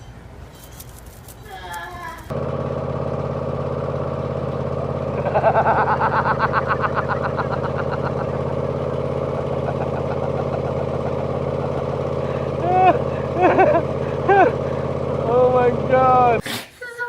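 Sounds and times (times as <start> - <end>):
engine humming: 0.0 - 16.4.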